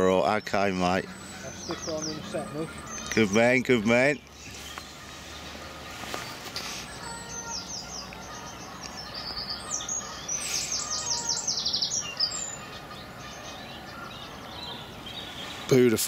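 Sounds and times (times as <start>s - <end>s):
songbird singing high notes: 0.0s - 16.0s.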